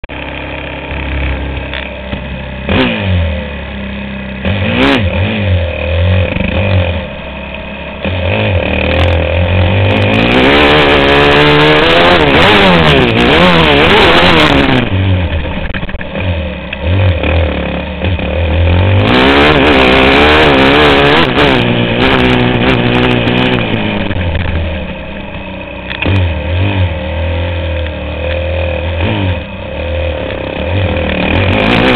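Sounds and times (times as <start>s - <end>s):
motocross engine revving: 0.0s - 31.9s.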